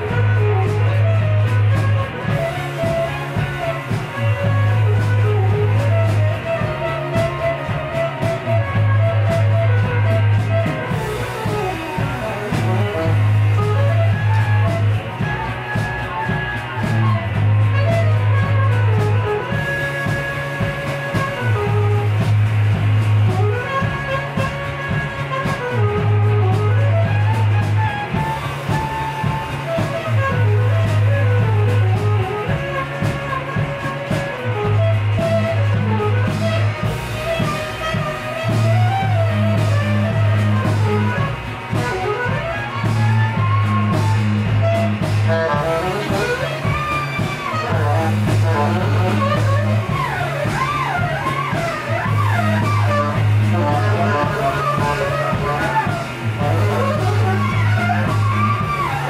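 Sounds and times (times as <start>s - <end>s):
drums: 0.0s - 59.0s
electric guitar: 0.0s - 59.0s
repeating low bass: 0.0s - 59.0s
saxophone lead line: 0.0s - 59.0s.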